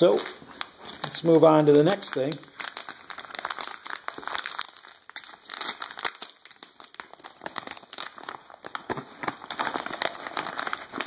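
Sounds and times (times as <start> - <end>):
paper envelope crinkling: 0.0 - 11.0.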